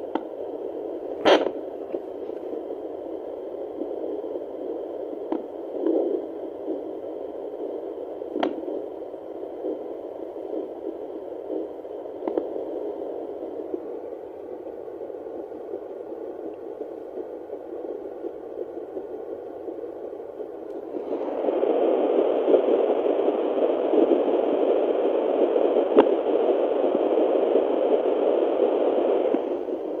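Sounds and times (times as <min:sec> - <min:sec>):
static hiss from speaker: 0:00.0 - 0:30.0.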